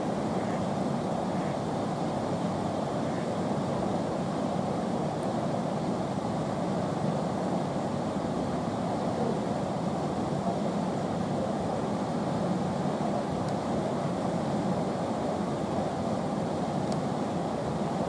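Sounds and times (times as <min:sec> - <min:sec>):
river rapid rushing: 0:00.0 - 0:18.0.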